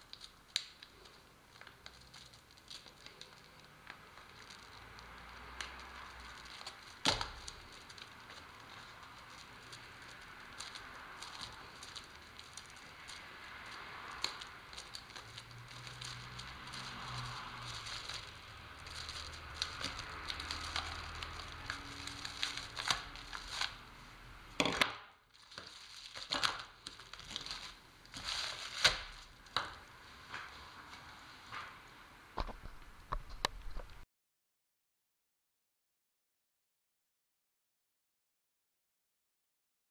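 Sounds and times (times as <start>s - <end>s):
plastic sheeting crinkling: 0.0s - 34.0s
sharp crackles and clicks: 0.0s - 34.0s.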